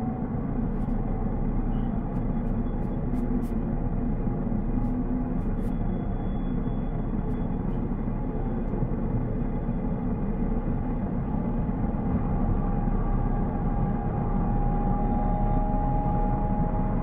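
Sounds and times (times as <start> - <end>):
road and tyre noise in cabin: 0.0 - 17.0.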